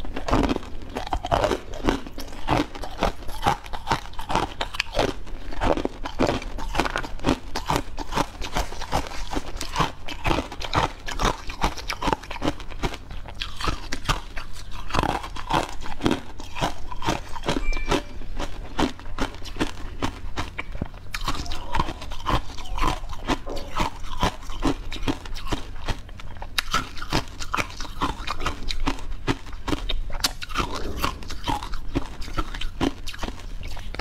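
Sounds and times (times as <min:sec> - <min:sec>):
chewing crisp food: 0:00.0 - 0:34.0.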